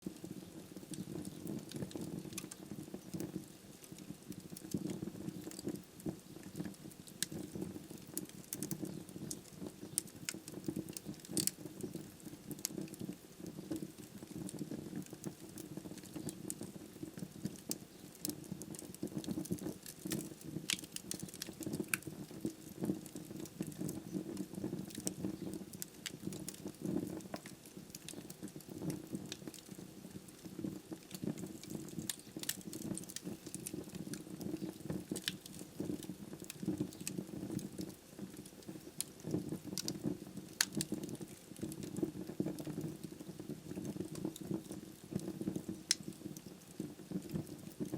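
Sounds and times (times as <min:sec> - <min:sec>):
flames fluttering: 0:00.0 - 0:47.9
logs crackling and popping: 0:00.0 - 0:47.9.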